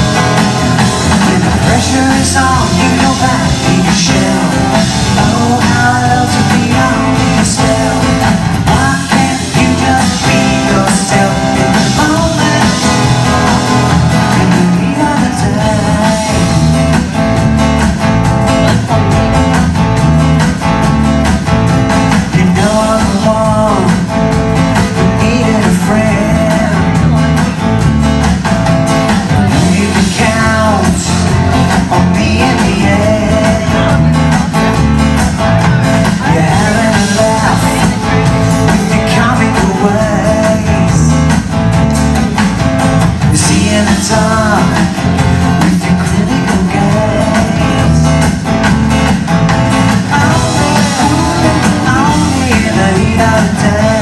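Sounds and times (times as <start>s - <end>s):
person singing: 0.0s - 17.2s, 18.2s - 19.7s, 22.0s - 28.0s, 28.9s - 41.5s, 42.2s - 54.0s
live rock band: 0.0s - 54.0s.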